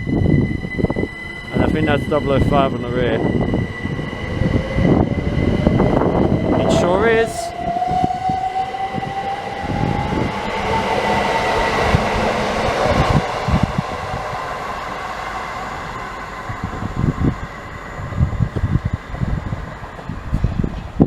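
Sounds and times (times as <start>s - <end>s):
electric train motor whine: 0.0s - 21.0s
train wheel and rail noise: 0.0s - 21.0s.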